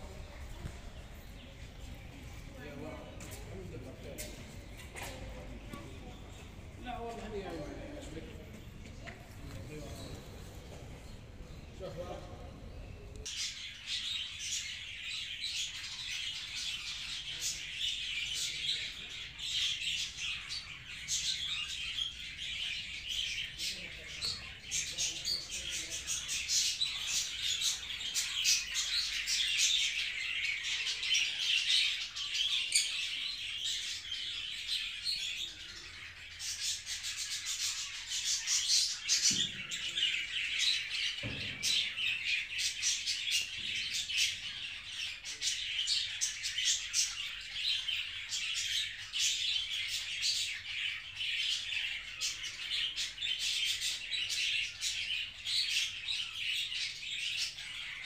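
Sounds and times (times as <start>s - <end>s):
small birds chirping and chattering: 0.0s - 58.0s.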